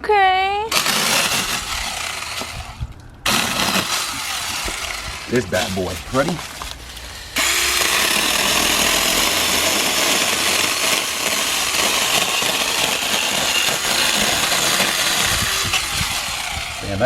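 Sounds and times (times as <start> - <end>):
cordless chainsaw cutting wood: 0.7 - 17.0.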